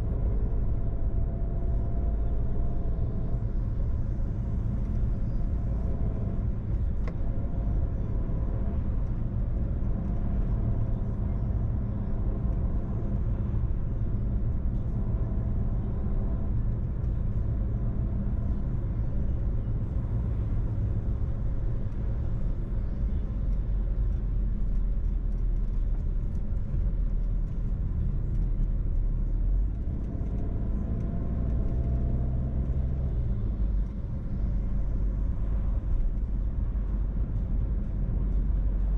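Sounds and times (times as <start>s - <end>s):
car engine rumble inside cabin: 0.0s - 38.9s
road noise: 0.0s - 38.9s.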